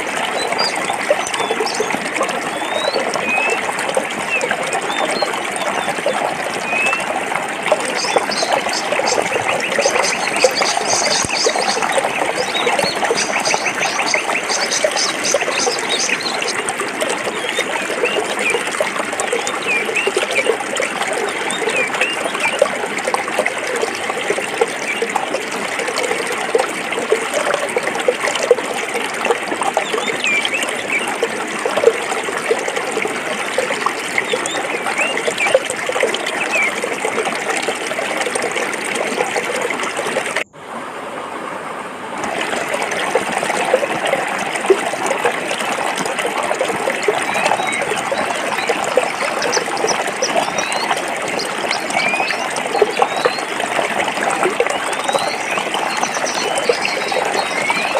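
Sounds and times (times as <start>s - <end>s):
stream running over rocks: 0.0s - 57.9s.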